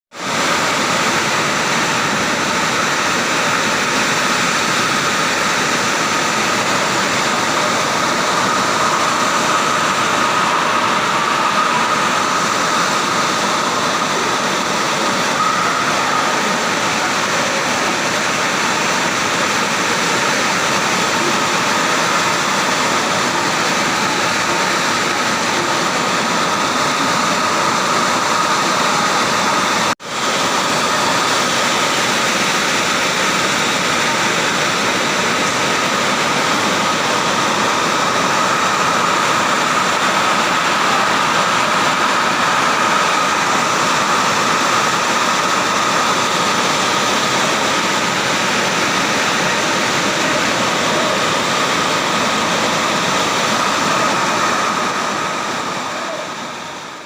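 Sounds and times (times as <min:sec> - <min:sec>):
heavy rain with strong wind: 0:00.1 - 0:57.0.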